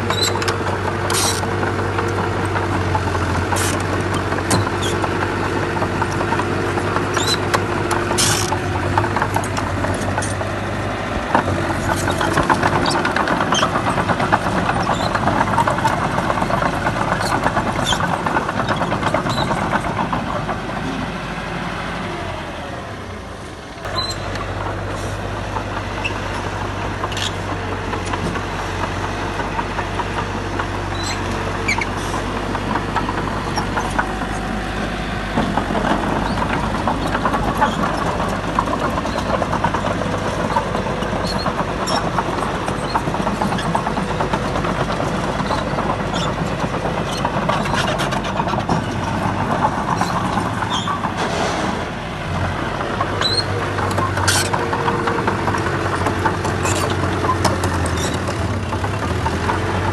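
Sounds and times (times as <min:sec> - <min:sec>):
heavy machinery diesel engines: 0:00.0 - 0:59.9
low engine hum: 0:00.0 - 0:59.9.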